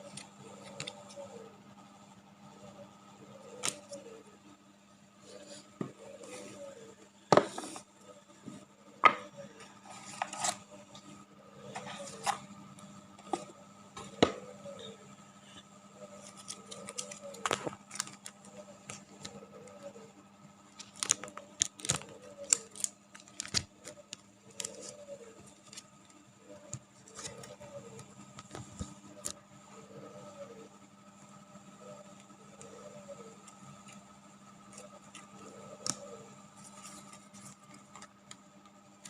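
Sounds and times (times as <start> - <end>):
steady electrical hum: 0.0 - 39.0.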